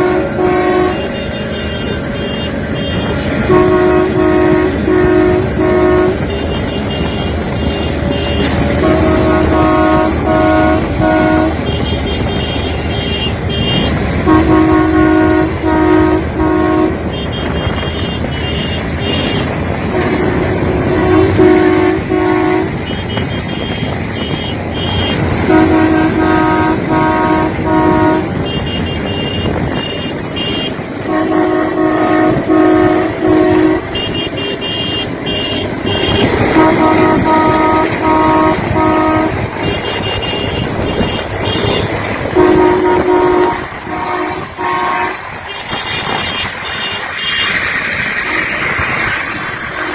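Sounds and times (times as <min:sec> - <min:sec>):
train horn toots: 0:00.0 - 0:49.9
train running noise: 0:00.0 - 0:49.9.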